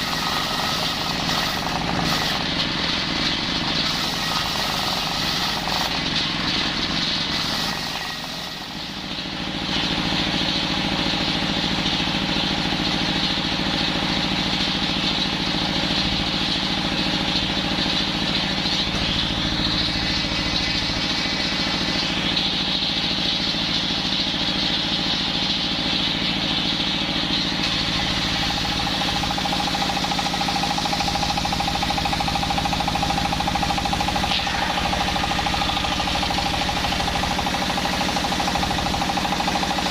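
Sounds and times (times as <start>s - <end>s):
circular saw running: 0.0s - 39.9s.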